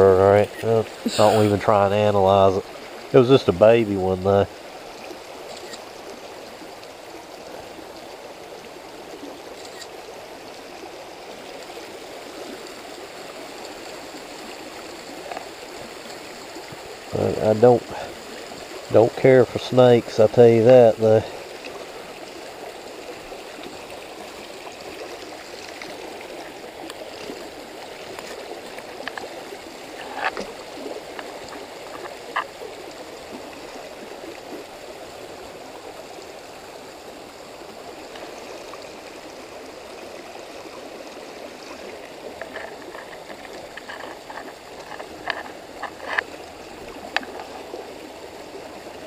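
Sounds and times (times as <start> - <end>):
creek babbling over stones: 0.0 - 49.0.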